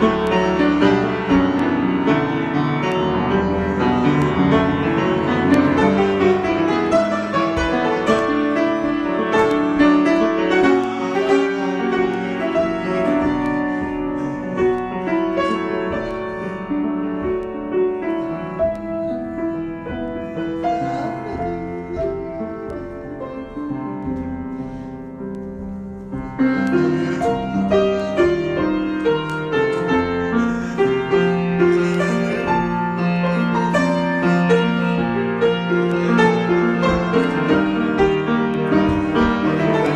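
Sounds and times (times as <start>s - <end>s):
piano improvisation: 0.0s - 39.9s.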